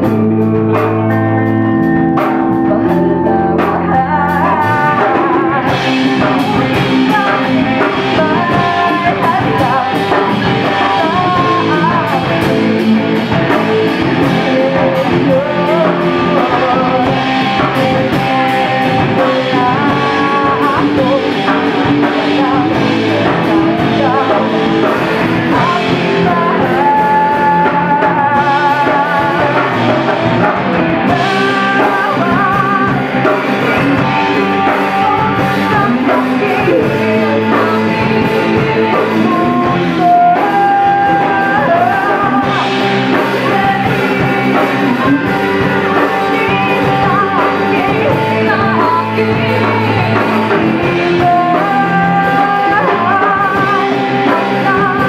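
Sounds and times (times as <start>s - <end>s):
bass guitar: 0.0s - 55.0s
drum kit: 0.0s - 55.0s
guitar: 0.0s - 55.0s
person singing: 0.0s - 55.0s.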